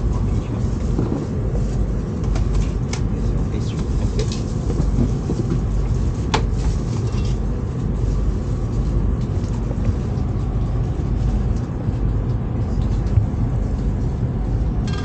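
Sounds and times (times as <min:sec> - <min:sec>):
train cabin low rumble: 0:00.0 - 0:15.0.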